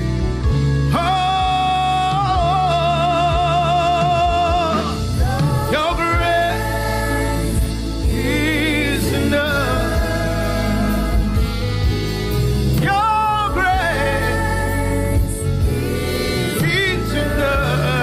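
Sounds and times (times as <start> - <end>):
bass line: 0.0 - 18.0
person singing with vibrato: 0.8 - 18.0.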